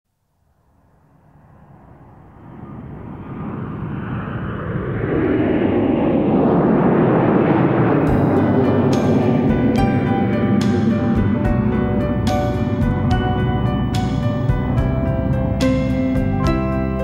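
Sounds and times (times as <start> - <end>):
jet engines rushing: 0.8 - 17.0.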